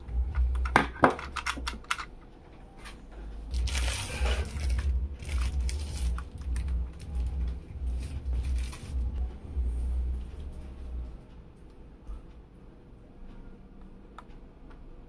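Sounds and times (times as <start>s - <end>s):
low rumble: 0.0s - 0.8s, 2.6s - 15.0s.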